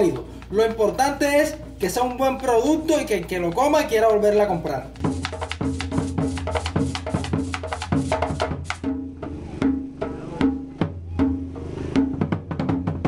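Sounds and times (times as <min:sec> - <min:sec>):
music with drum and wood-block beat: 0:00.0 - 0:13.0.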